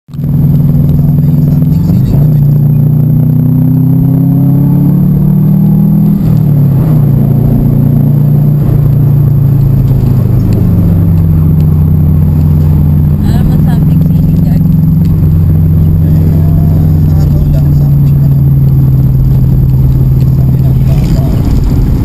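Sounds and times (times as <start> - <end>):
car engine droning in cabin: 0.1 - 22.0.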